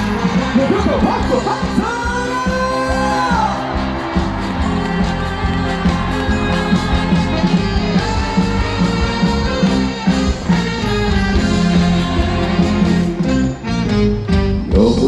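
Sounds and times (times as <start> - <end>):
trot music over sound system: 0.0 - 15.0.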